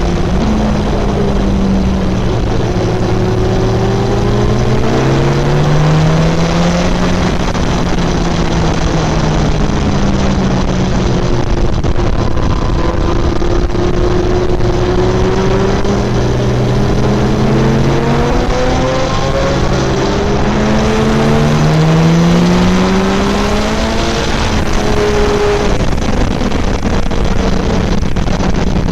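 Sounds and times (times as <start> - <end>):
motorcycle engine running: 0.0 - 28.9
wind rush: 0.0 - 28.9.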